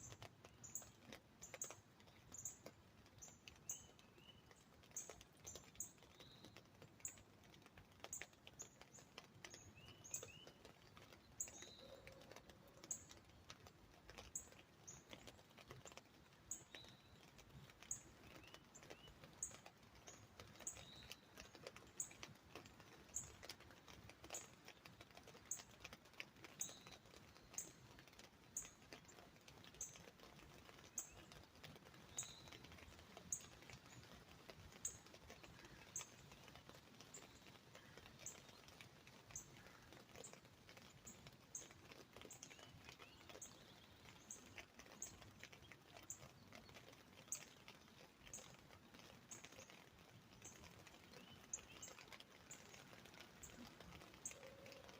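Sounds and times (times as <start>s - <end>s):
raindrops on an umbrella: 0.0s - 54.9s.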